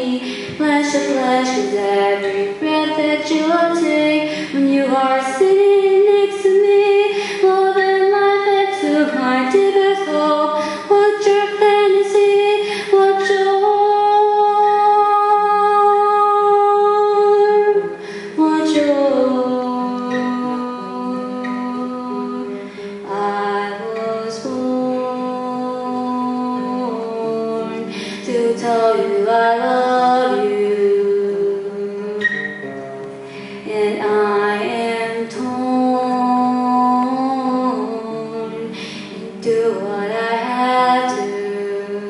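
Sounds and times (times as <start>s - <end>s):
girl singing: 0.0s - 32.7s, 33.4s - 42.0s
classical guitar: 0.0s - 42.0s.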